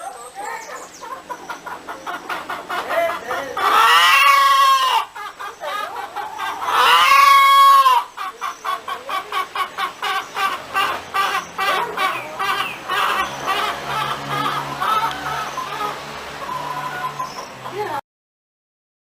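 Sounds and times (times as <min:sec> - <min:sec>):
hen clucking: 0:00.0 - 0:18.0
hen long drawn-out call: 0:00.0 - 0:18.0.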